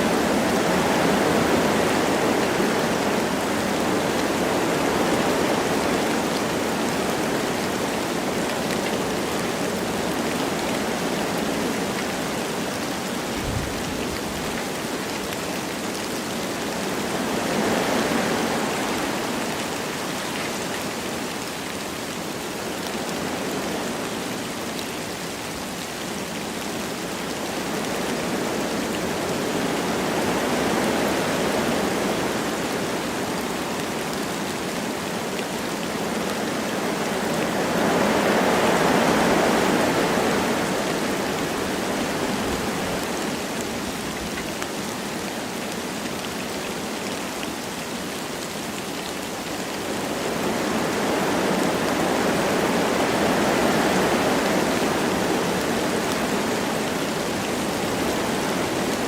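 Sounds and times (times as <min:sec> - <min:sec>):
light rain falling: 0:00.0 - 0:59.0
wind through trees: 0:00.0 - 0:59.0.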